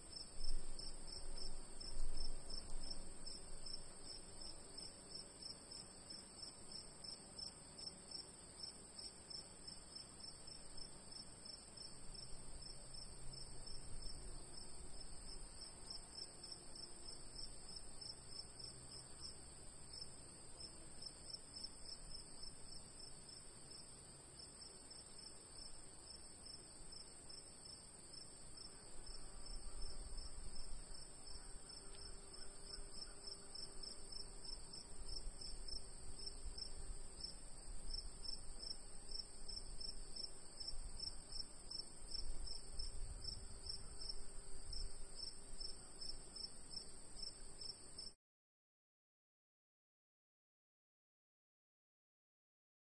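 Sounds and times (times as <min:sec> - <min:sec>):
lower cricket chirp pulsing: 0:00.1 - 0:48.1.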